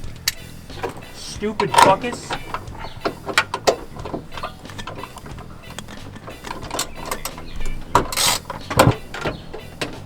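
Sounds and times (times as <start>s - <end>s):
metal clicks and knocks: 0.0s - 10.0s
metal scrape: 0.2s - 10.0s.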